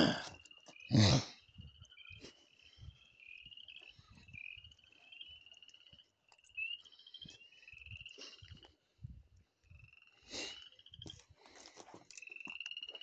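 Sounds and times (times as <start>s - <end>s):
frogs trilling: 0.0s - 8.8s, 9.6s - 11.5s, 12.1s - 13.0s.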